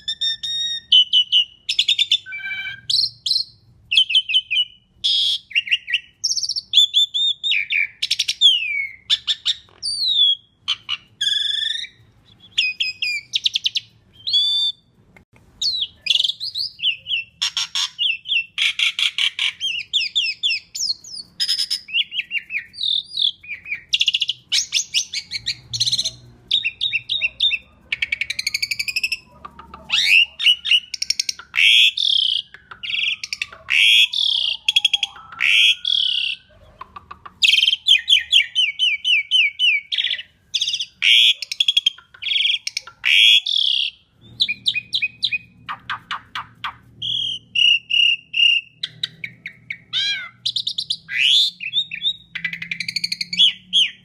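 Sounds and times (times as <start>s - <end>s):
starling singing: 0.0s - 14.9s, 15.6s - 54.0s.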